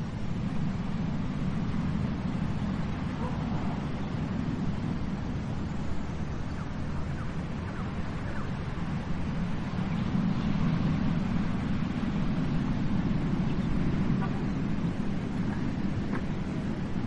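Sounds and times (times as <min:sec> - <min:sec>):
ocean surf rumbling: 0:00.0 - 0:17.0.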